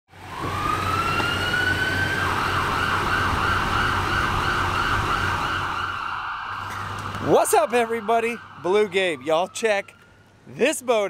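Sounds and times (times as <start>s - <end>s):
emergency vehicle siren: 0.1s - 10.5s.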